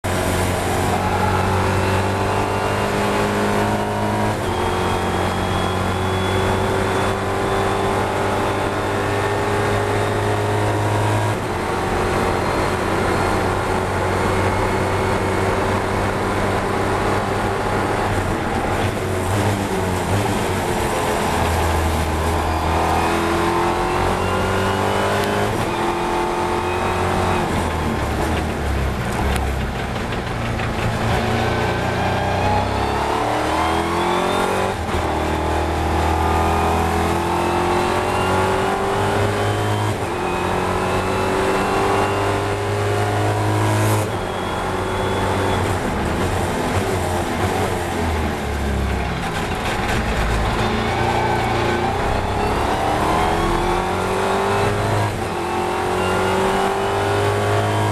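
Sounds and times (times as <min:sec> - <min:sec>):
race car engine accelerating: 0:00.0 - 0:57.9.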